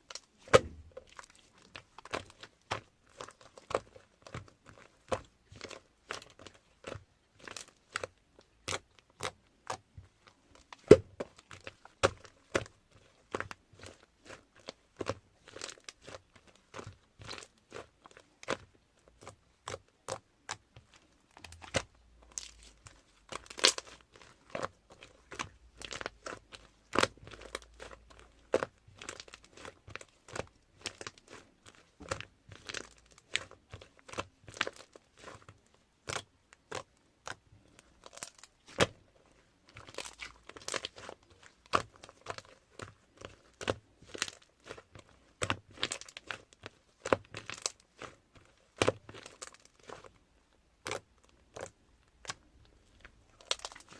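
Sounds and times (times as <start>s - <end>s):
slime squishing with clicks: 0.0s - 53.9s.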